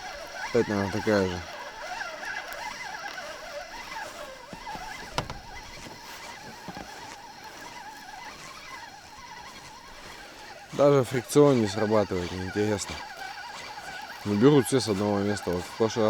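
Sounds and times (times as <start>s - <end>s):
fishing reel whirring: 0.0s - 16.0s.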